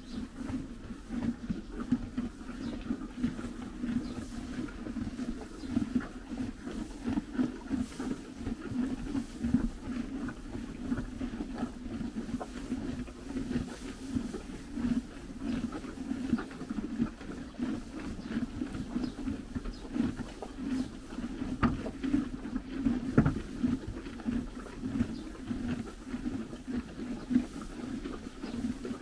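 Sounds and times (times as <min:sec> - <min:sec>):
horses chewing hay: 0:00.0 - 0:29.0
dry hay rustling: 0:03.0 - 0:26.2.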